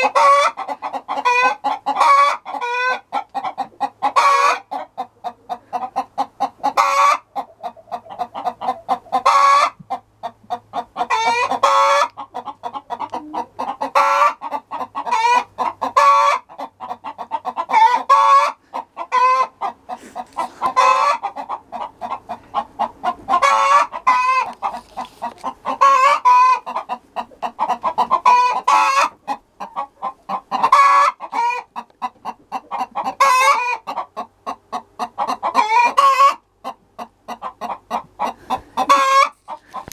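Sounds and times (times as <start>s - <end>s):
chickens clucking: 0.0s - 39.9s
long drawn-out chicken call: 0.0s - 39.9s.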